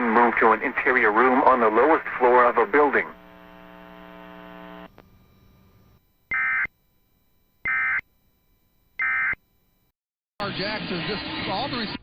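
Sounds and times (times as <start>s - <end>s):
electrical hum: 0.0s - 9.9s.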